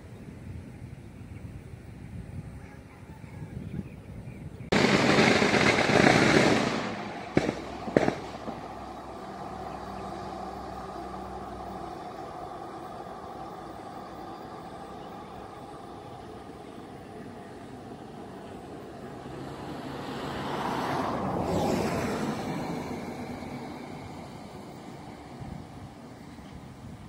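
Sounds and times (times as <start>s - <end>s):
steady distant hum: 0.0s - 27.0s
loud rush of passing train: 4.7s - 27.0s.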